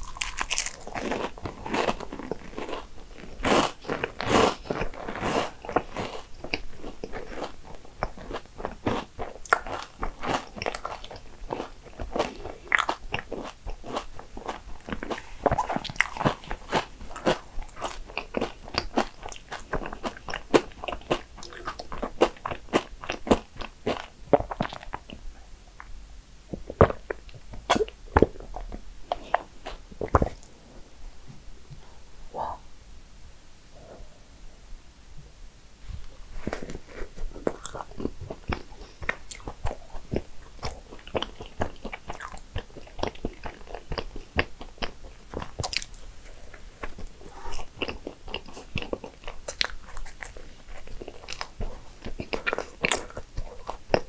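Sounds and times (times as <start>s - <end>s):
chewing and mouth sounds: 0.0s - 25.2s, 26.5s - 30.6s, 36.4s - 54.0s.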